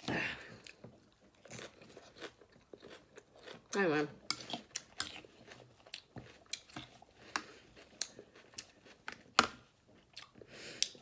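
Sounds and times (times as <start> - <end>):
person chewing crunchy salad: 0.0 - 11.0.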